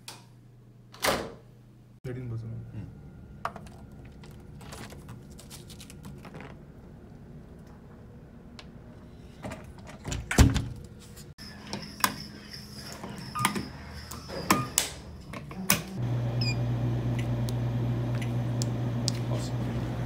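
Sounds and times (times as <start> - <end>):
vending machine humming: 2.1 - 20.0.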